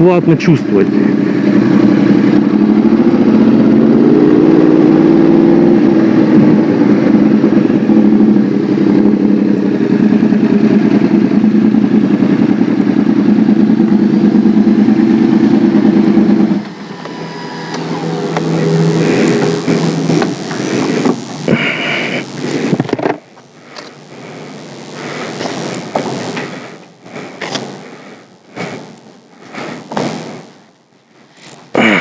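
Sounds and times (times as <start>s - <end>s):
motorcycle engine under throttle: 0.0s - 32.0s.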